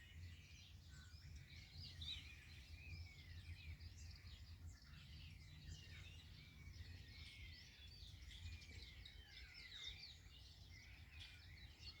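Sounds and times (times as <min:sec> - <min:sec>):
songbirds chirping and singing: 0:00.1 - 0:12.0.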